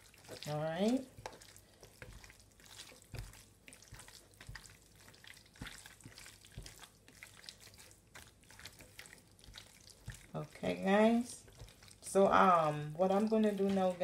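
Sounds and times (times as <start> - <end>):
hands squishing raw chicken: 0.0 - 14.0.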